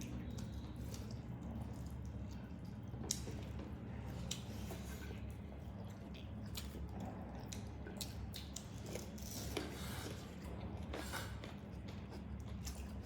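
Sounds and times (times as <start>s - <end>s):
wet chewing and smacking: 0.2s - 13.0s.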